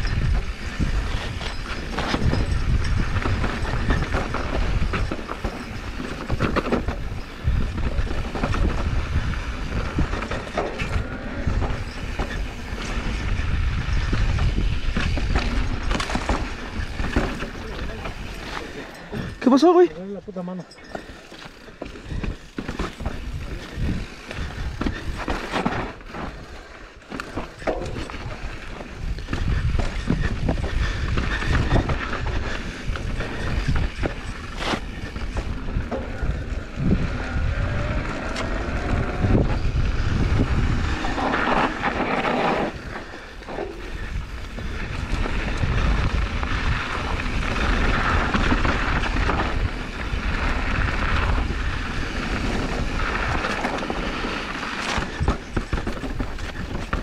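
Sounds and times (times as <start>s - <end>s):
wind buffeting microphone: 0.0s - 20.2s, 21.0s - 26.5s, 27.3s - 57.0s
bike rattling over bumps: 0.0s - 57.0s
tyres on dirt: 0.0s - 57.0s.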